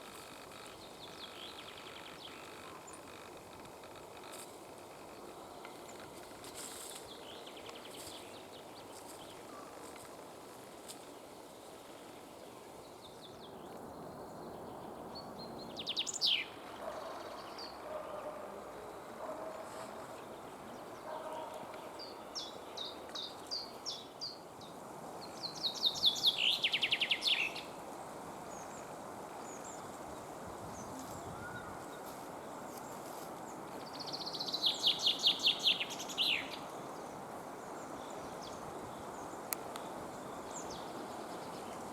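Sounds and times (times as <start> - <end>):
background noise: 0.0 - 41.9.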